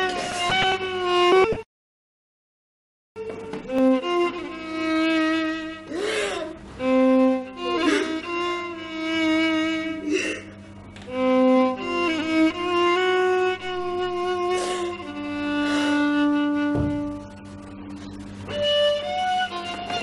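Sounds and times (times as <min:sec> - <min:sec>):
slow violin melody: 0:00.0 - 0:01.7, 0:03.2 - 0:20.0.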